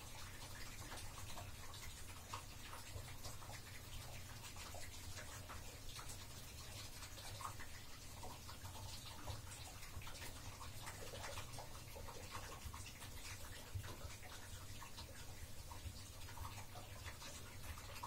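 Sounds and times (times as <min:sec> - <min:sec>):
water draining with gurgles: 0:00.0 - 0:18.0.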